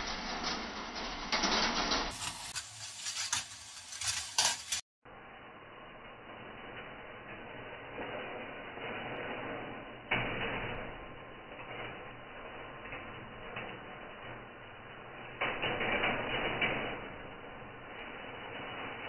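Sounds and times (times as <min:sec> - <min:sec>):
steel balls rolling on wire tracks: 0:00.0 - 0:04.8, 0:06.1 - 0:19.0.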